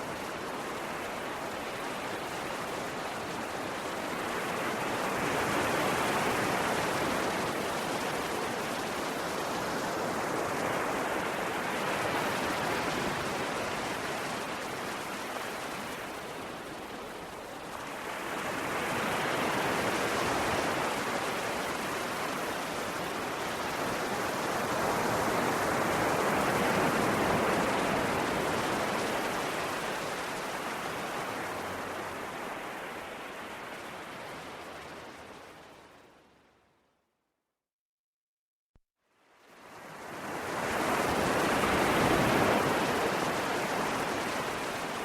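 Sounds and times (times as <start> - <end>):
sea waves washing onto shore: 0.0 - 35.8, 39.5 - 45.0.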